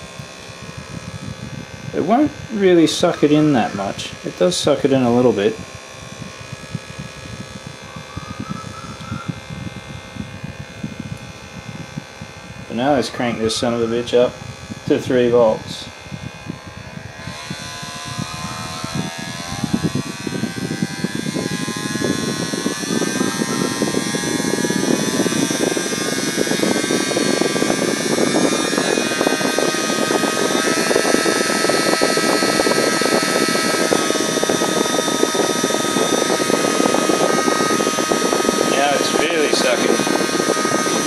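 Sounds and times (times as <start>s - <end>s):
small motor whining: 0.0s - 41.0s.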